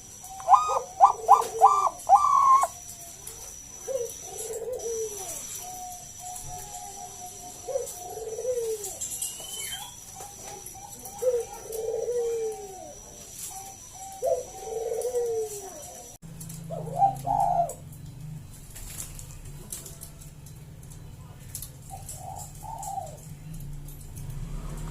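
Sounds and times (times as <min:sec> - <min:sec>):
dove cooing: 0:00.0 - 0:24.9.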